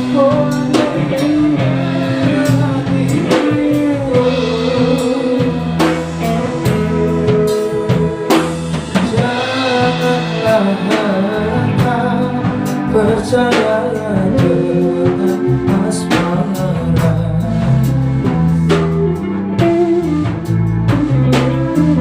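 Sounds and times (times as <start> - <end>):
bass: 0.0 - 22.0
drum kit: 0.0 - 22.0
guitar melody: 0.0 - 22.0.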